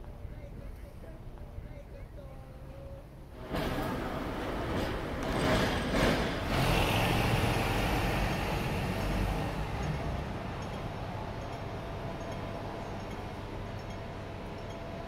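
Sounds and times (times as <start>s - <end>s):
tram and traffic rumbling: 2.5s - 15.0s.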